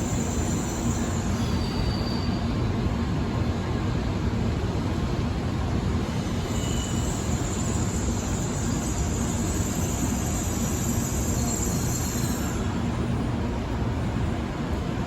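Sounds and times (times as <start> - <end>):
bullet train passing at high speed: 0.0 - 15.0.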